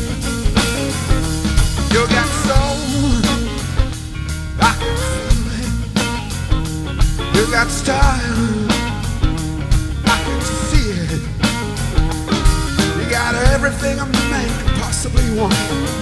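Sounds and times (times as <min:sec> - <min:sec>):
blues-rock band playing: 0:00.0 - 0:16.0
electric guitar lead lines: 0:00.0 - 0:16.0.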